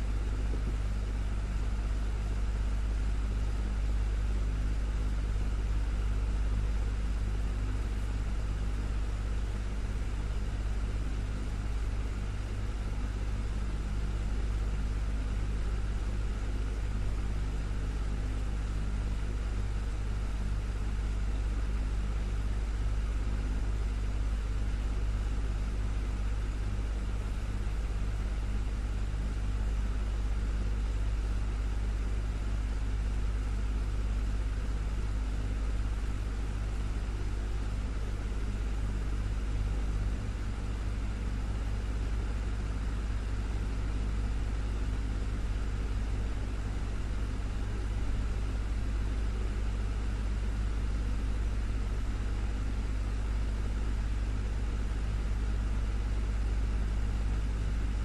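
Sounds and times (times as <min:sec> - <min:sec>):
desktop fan humming: 0:00.0 - 0:58.0.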